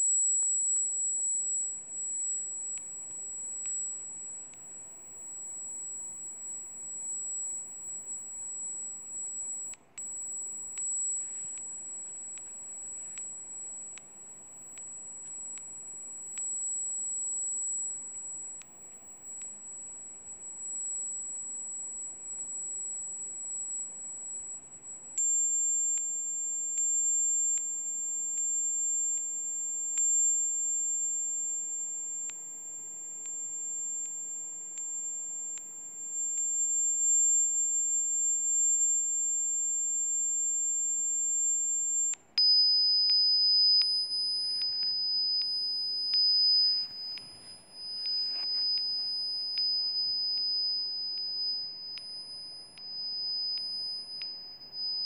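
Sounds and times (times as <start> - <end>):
high electronic sine tone: 0.0 - 55.0.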